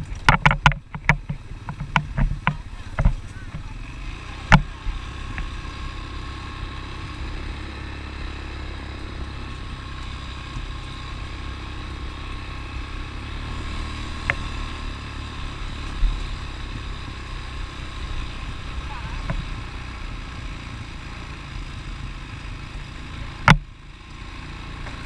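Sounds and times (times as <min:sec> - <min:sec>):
atv engine rumbling: 0:00.0 - 0:25.0.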